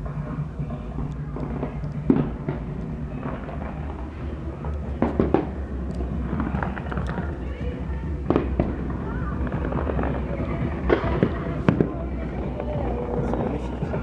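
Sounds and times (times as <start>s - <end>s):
fireworks bangs: 0.0s - 14.0s
fireworks crackling: 0.0s - 14.0s
steady low rumble: 0.0s - 14.0s.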